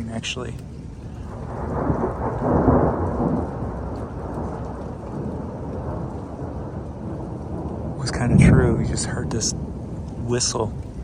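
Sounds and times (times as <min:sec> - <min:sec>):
steady rain: 0:00.0 - 0:11.0
thunder rumbling: 0:00.6 - 0:11.0.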